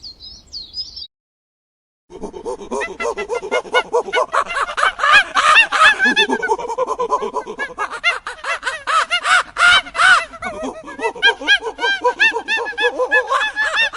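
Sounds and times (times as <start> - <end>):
flock of birds calling: 2.5 - 13.9.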